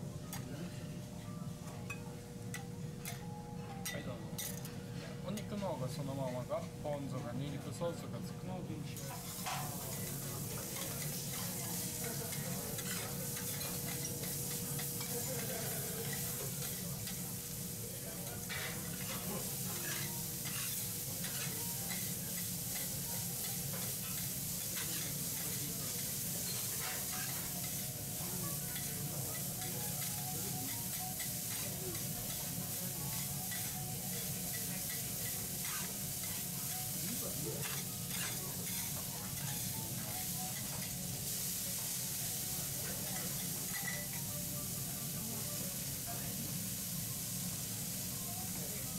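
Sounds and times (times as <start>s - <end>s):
food sizzling on griddle: 9.0s - 48.9s.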